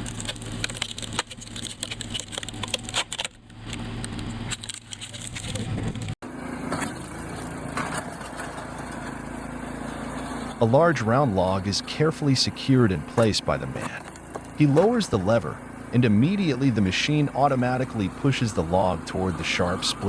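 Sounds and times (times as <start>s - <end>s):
machinery engine running: 0.0s - 20.0s
steady engine hum: 0.0s - 20.0s.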